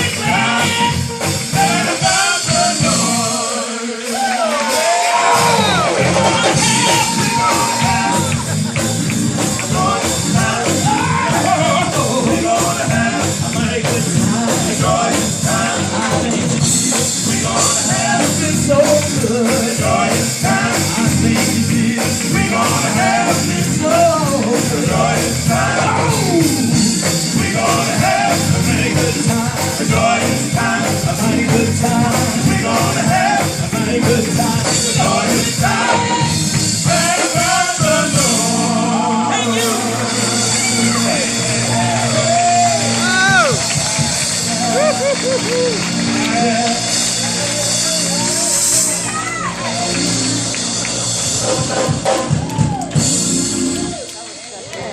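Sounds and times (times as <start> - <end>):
gospel band playing: 0.0 - 54.9.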